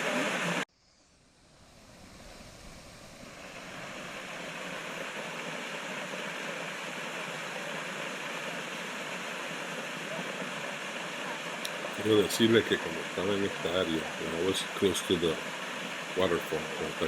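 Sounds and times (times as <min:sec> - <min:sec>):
waterfall rushing: 0:00.0 - 0:00.6, 0:03.2 - 0:17.0.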